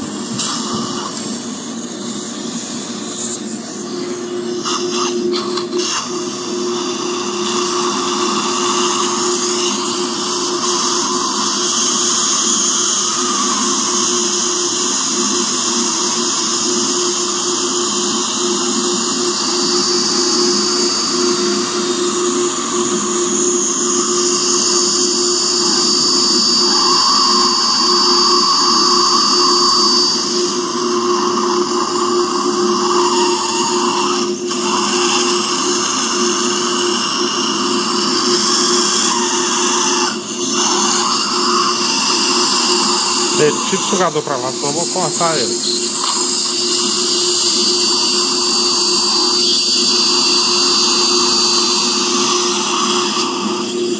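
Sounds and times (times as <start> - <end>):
surgical drill cutting bone: 0.0 - 53.9.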